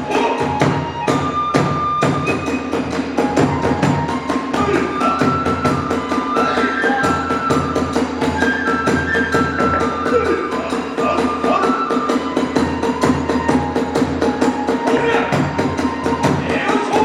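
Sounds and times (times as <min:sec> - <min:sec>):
bamboo flute playing held notes: 0:00.0 - 0:17.0
drum strikes: 0:00.0 - 0:17.0.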